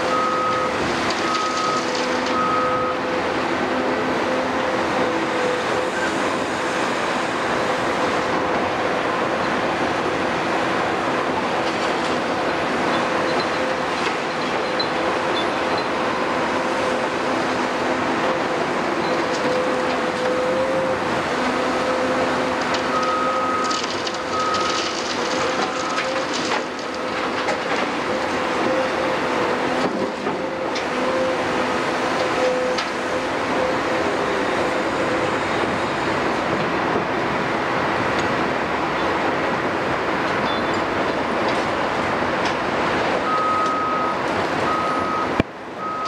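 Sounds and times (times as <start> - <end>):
diesel engine running under load: 0.0 - 46.0.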